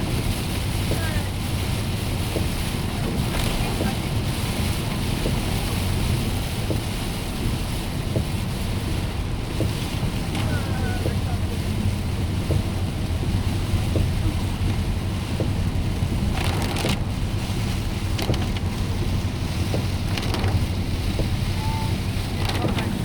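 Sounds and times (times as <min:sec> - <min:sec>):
car engine and road rumble: 0:00.0 - 0:23.0
tyres on wet road: 0:00.0 - 0:23.0.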